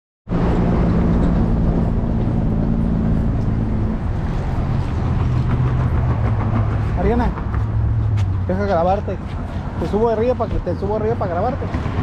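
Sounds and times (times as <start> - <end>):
loud rushing noise: 0.3 - 10.4
vehicle engine hum: 0.3 - 12.0.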